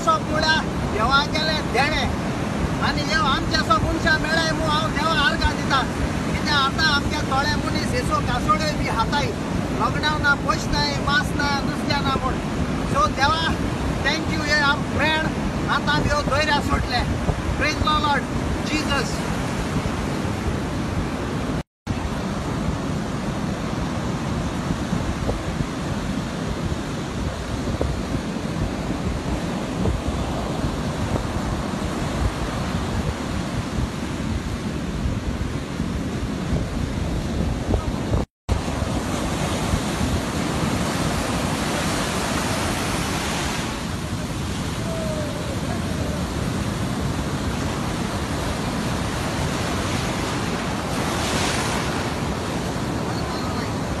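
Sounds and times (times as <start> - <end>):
surf breaking on beach: 0.0 - 54.0
wind buffeting microphone: 0.0 - 54.0.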